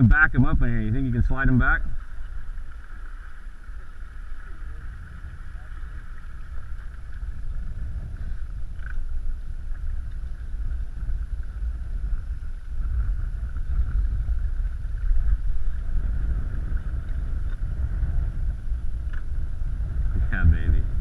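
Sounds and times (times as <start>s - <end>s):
boat motor rumble and whine: 0.0s - 21.0s.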